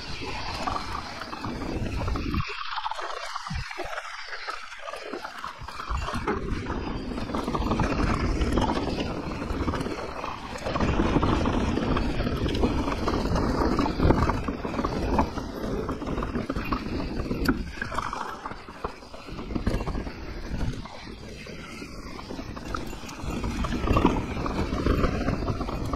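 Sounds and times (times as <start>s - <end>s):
bike rattling over stones: 0.0s - 25.9s
wind on microphone: 0.0s - 25.9s.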